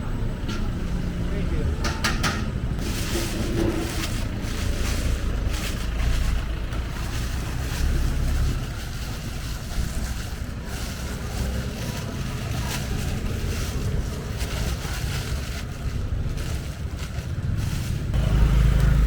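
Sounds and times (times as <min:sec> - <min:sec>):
gas burner rumble: 0:00.0 - 0:19.0.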